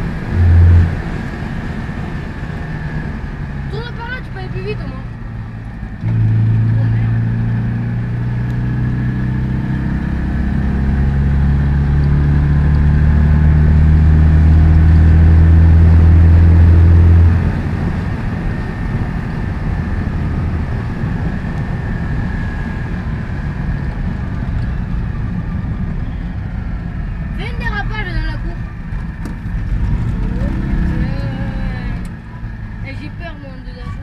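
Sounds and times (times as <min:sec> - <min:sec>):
car engine running: 0:00.0 - 0:34.0
road noise: 0:00.0 - 0:34.0.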